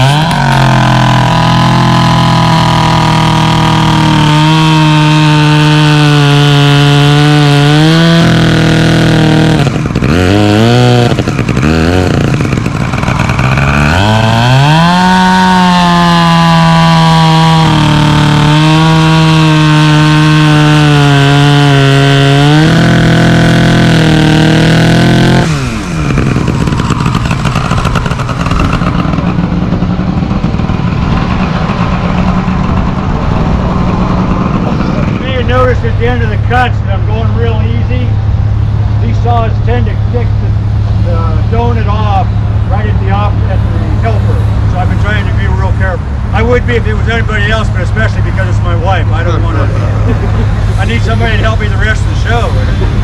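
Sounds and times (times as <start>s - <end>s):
chainsaw engine revving: 0.0s - 53.0s
lower rougher engine running: 0.0s - 53.0s.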